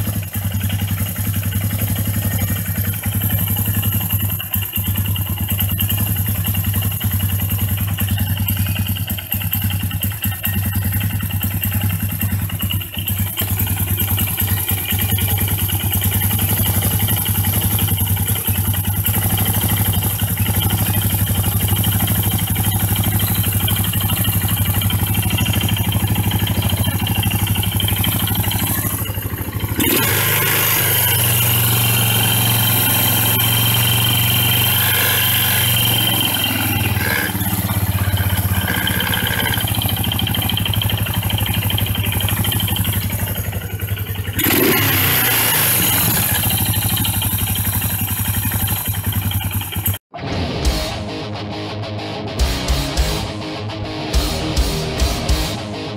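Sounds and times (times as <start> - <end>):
air-cooled engine idling: 0.0 - 50.0.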